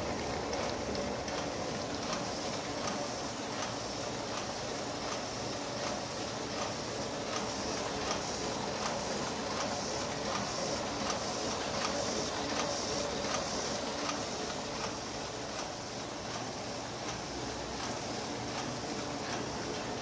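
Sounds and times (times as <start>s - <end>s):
printing press whirring: 0.0s - 20.0s
sharp mechanical clicks: 0.5s - 19.5s.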